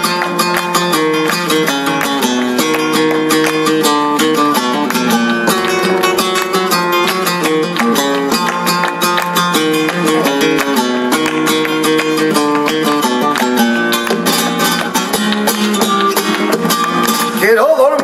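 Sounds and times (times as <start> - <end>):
flamenco guitar playing: 0.0 - 18.0
rhythmic hand clapping: 0.0 - 18.0.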